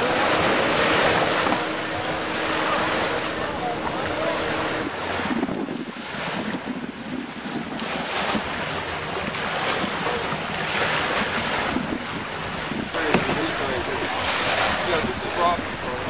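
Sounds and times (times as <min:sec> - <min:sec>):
water splashing: 0:00.0 - 0:16.0
wind buffeting microphone: 0:00.0 - 0:16.0.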